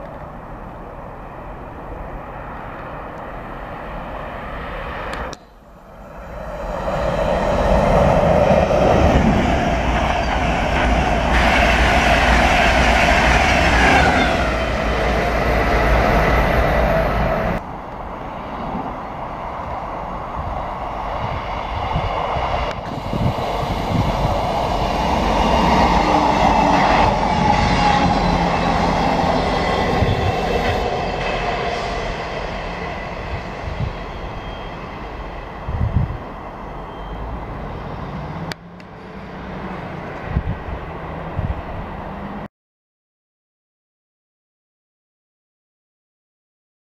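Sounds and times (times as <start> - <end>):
diesel train passing: 0.0 - 42.5.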